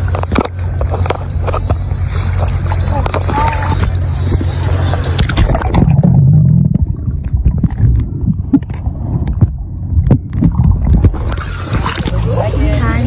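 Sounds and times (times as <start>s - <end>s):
muffled underwater rumble: 0.0s - 13.0s.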